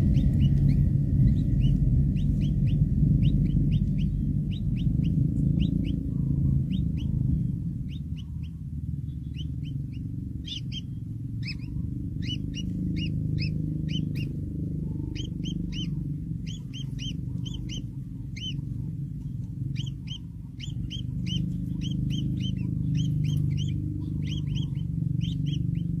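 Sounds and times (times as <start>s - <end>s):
steady low rumble: 0.0s - 26.0s
young birds cheeping: 0.0s - 26.0s.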